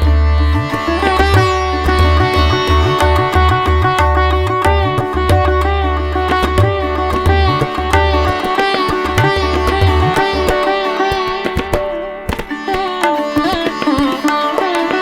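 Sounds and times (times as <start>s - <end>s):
plucked sitar-like string melody: 0.0s - 15.0s.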